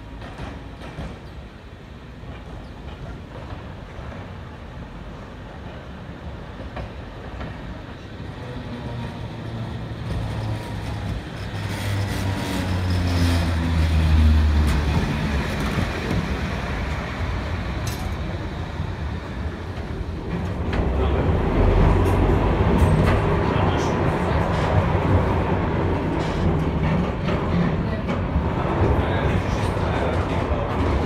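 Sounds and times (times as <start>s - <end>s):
tram wheels rumbling on rails: 0.0s - 31.0s.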